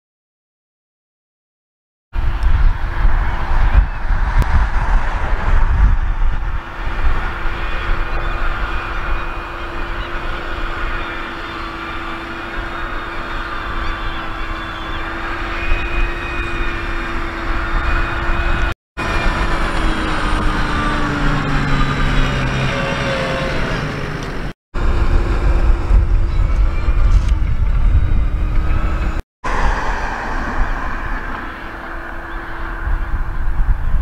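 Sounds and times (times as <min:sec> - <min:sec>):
tractor diesel engine running: 0:03.0 - 0:34.0.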